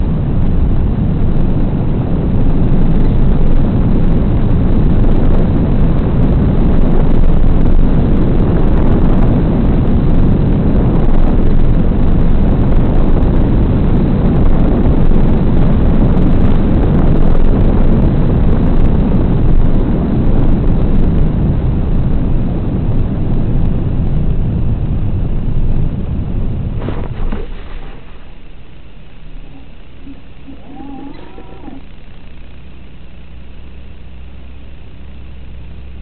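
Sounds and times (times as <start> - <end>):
wind rushing over microphone: 0.0 - 34.2.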